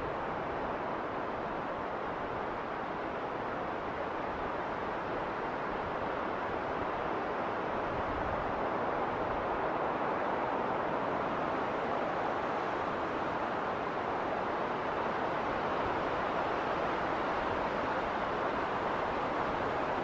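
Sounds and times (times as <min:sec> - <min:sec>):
wind blowing in snowstorm: 0:00.0 - 0:20.0.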